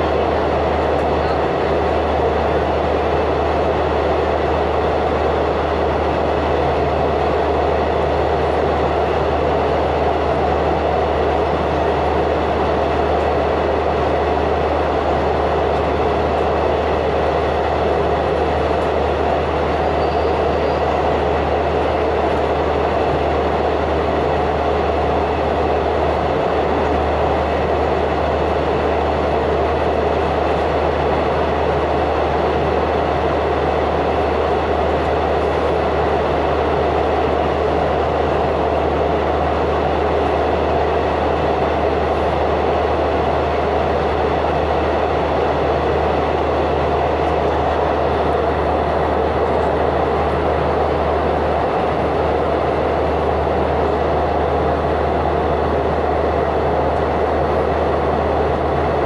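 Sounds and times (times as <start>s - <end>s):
train wheels rumbling inside carriage: 0.0s - 59.0s.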